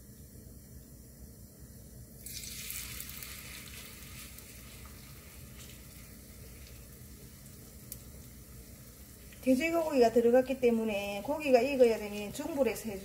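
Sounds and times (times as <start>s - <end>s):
batter sizzling in hot oil: 2.1s - 13.0s.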